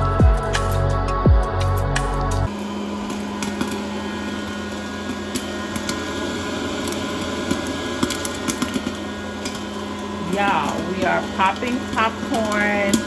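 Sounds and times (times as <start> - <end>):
electric appliance hum: 0.0 - 13.0
popcorn popping: 1.9 - 13.0.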